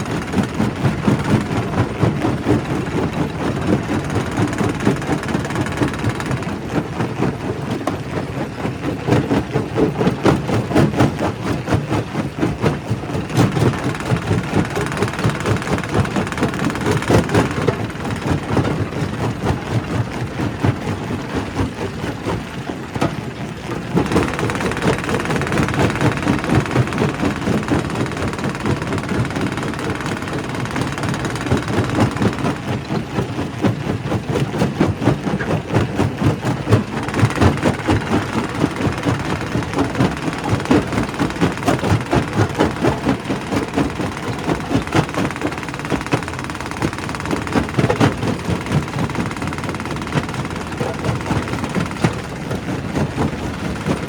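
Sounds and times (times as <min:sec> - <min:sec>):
heavy machine rumble: 0:00.0 - 0:10.2, 0:10.9 - 0:54.0.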